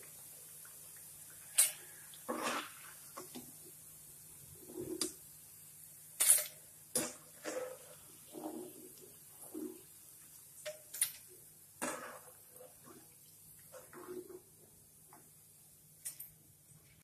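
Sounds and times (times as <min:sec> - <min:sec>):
hot oil sizzling: 0:00.0 - 0:16.4.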